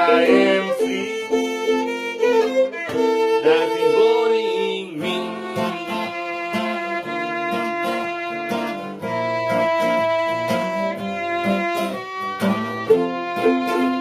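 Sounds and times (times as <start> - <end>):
guitar accompaniment: 0.0 - 14.0
violin melody: 0.0 - 14.0.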